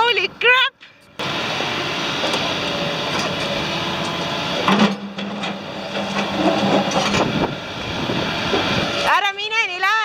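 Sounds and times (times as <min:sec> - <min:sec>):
construction machinery din: 0:00.0 - 0:10.0
engine hum: 0:00.0 - 0:10.0.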